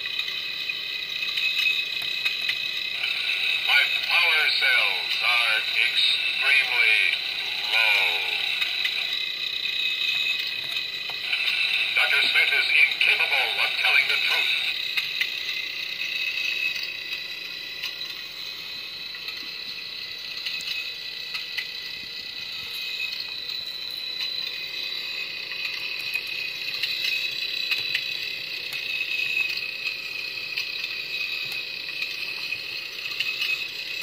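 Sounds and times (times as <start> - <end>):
high-pitched electronic hum: 0.0 - 34.0.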